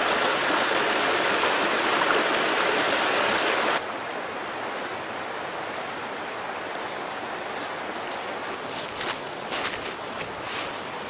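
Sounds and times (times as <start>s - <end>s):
water rushing: 0.0s - 10.2s.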